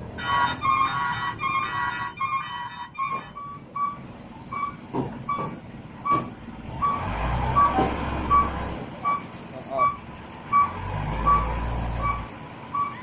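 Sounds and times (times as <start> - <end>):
diesel engine rumble: 0.0 - 13.0
reversing alarm beeping: 0.2 - 13.0.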